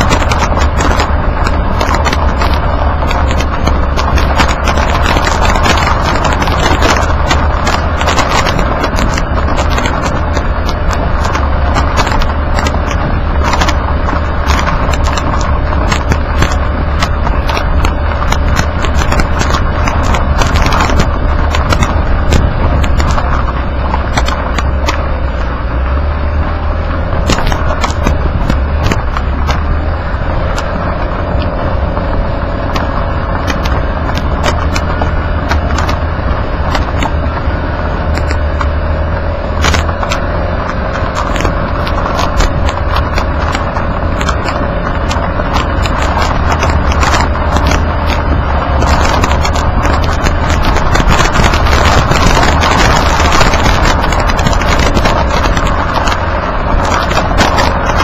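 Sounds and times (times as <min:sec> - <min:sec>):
tyre and wind rumble: 0:00.0 - 0:58.0.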